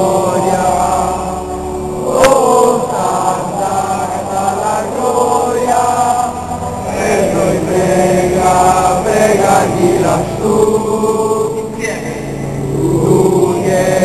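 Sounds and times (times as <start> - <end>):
choir singing a religious chant: 0.0 - 14.0.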